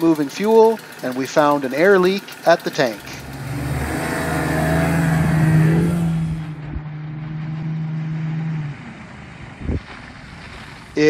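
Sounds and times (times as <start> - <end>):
outboard motor running: 0.0 - 10.9.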